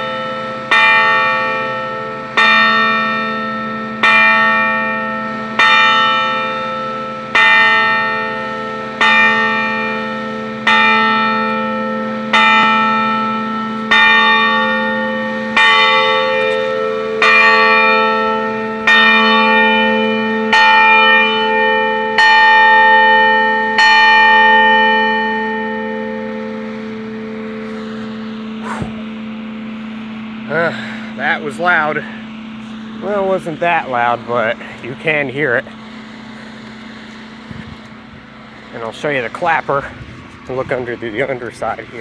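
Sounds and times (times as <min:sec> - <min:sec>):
church bell tolling: 0:00.0 - 0:36.4.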